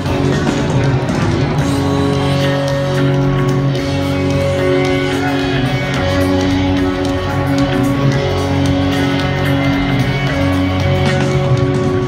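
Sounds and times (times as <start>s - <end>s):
electric guitar lines: 0.0s - 12.0s
live rock band playing: 0.0s - 12.0s.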